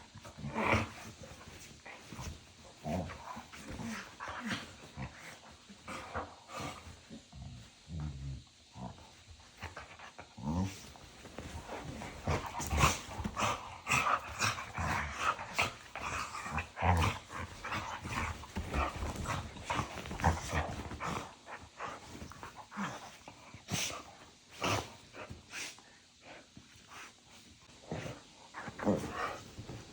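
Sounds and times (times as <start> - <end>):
small dogs growling: 0.1 - 25.8, 27.8 - 29.9.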